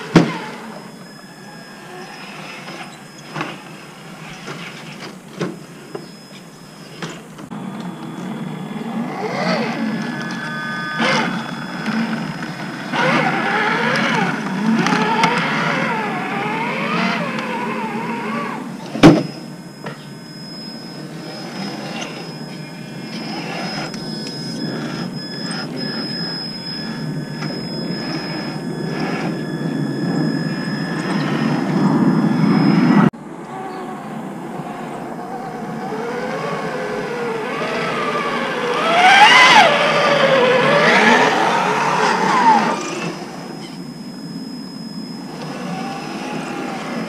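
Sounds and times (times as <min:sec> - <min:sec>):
electric motors whining: 0:00.0 - 0:47.0.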